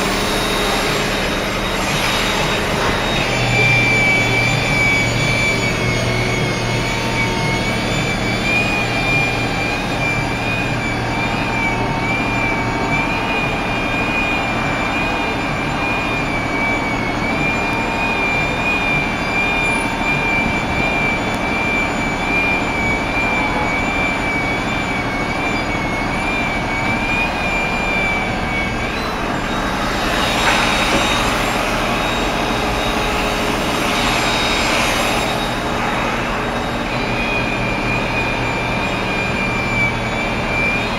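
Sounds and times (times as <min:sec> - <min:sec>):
broad rushing noise: 0:00.0 - 0:40.9
engine drone: 0:00.0 - 0:40.9
high wavering whine: 0:00.0 - 0:40.9.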